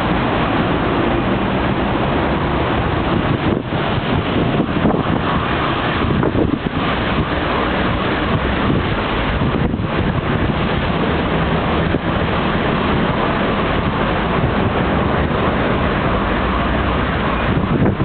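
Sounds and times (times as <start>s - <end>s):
street traffic: 0.0s - 18.0s
wind rumble on microphone: 0.0s - 18.0s.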